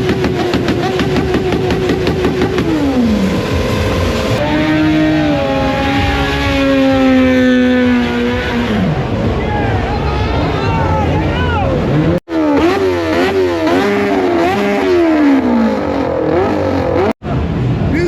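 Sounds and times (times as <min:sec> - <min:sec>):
motorcycle engine revving: 0:00.0 - 0:17.9.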